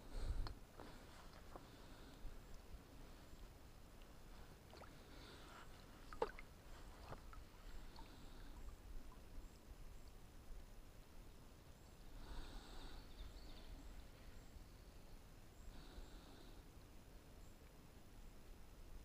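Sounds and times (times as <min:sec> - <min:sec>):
faint water movement: 0:00.0 - 0:17.8.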